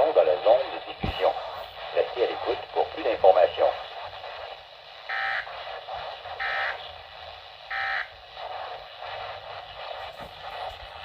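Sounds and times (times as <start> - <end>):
faint radio hiss: 0.0 - 11.0.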